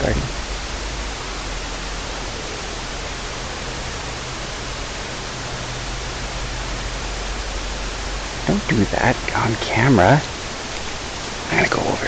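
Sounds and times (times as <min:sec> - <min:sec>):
faint low hum: 0:00.0 - 0:12.0
steady hiss: 0:00.0 - 0:12.0.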